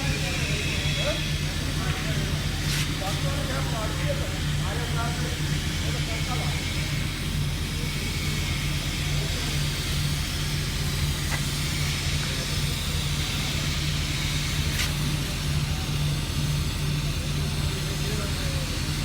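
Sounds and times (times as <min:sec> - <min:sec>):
low drone of machinery: 0:00.0 - 0:19.0.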